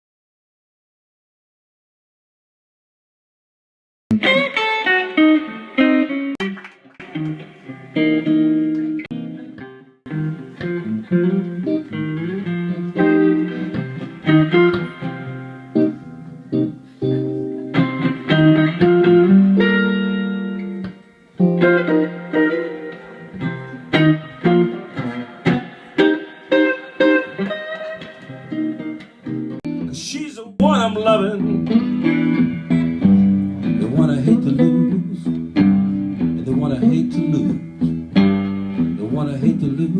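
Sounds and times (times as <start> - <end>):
instrumental guitar music: 4.1 - 39.9.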